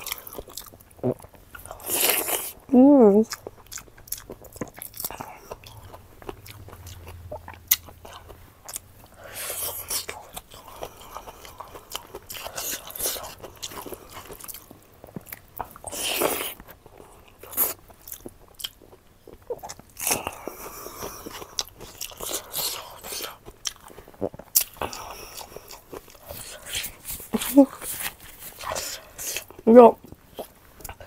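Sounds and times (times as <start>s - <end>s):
person chewing and biting: 0.0s - 2.6s, 3.2s - 31.0s.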